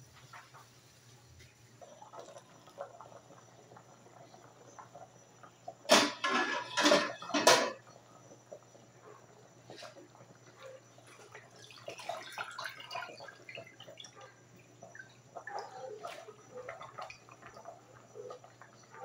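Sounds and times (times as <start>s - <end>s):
broth bubbling in a pot: 0.0s - 19.0s.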